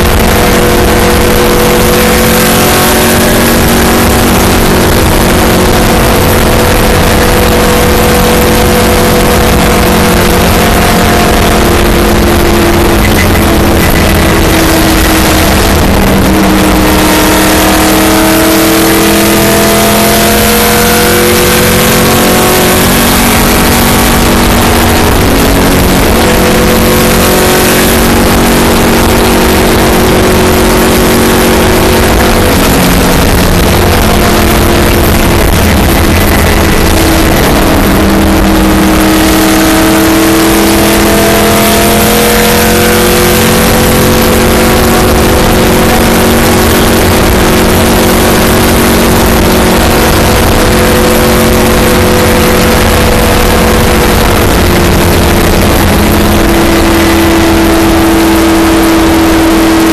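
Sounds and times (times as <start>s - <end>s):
car engine at full speed: 0.0s - 59.9s
road and wind roar: 0.0s - 59.9s.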